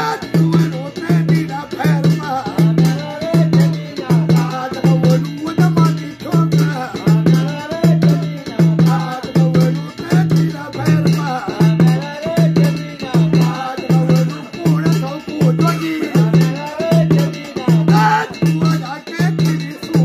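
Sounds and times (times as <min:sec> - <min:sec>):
man singing: 0:00.0 - 0:20.0.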